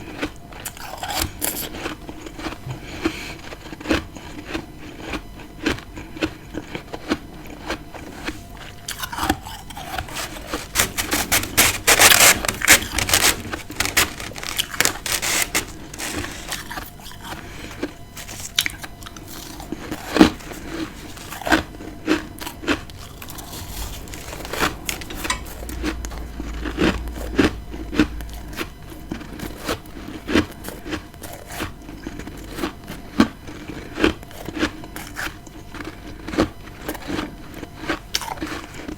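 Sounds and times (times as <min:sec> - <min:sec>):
person crunching frost: 0:00.0 - 0:38.9.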